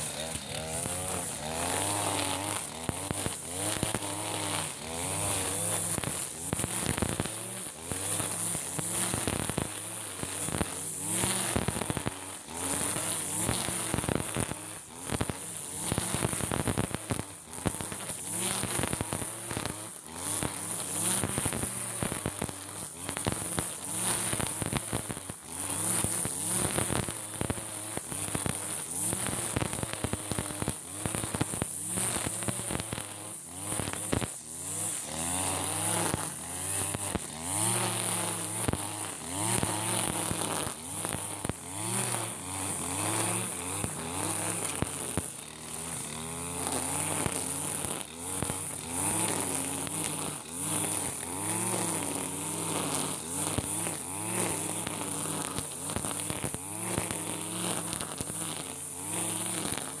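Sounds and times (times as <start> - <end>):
brush cutter engine running: 0.0 - 60.0.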